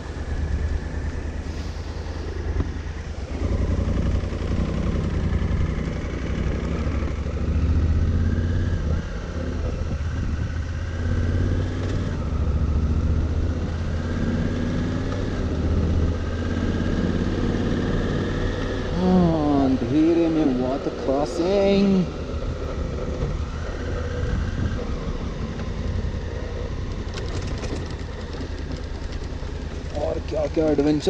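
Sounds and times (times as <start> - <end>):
motorcycle engine revving: 2.0 - 31.0.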